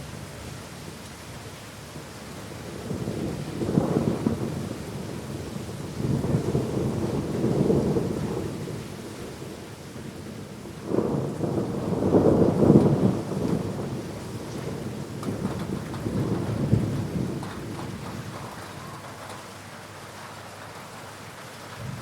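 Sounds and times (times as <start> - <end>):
steady rain: 0.0 - 22.0
thunder rumbling: 2.5 - 22.0.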